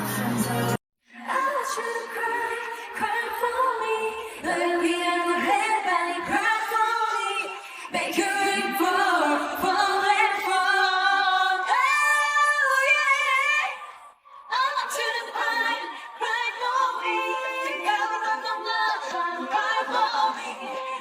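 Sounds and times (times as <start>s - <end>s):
women singing pop melody: 0.0s - 21.0s.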